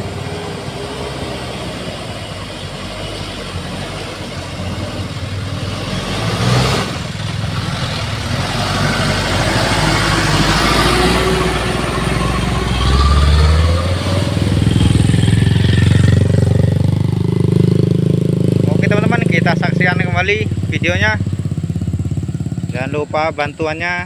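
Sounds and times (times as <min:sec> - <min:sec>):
truck diesel engine passing: 0:00.0 - 0:24.0.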